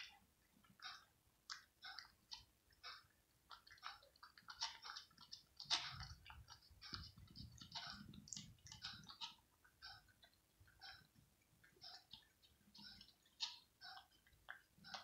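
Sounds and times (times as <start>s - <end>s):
cat chewing wet food: 0.0s - 15.0s.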